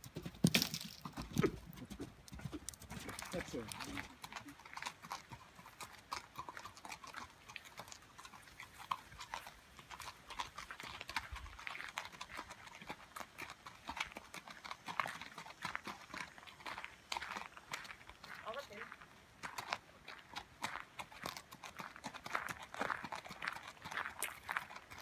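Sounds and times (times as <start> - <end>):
hooves walking on gravel: 0.0 - 25.0.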